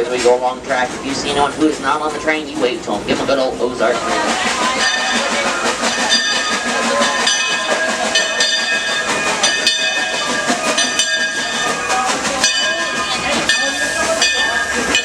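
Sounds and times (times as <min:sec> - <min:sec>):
steam train rumble and hiss: 0:00.0 - 0:15.0.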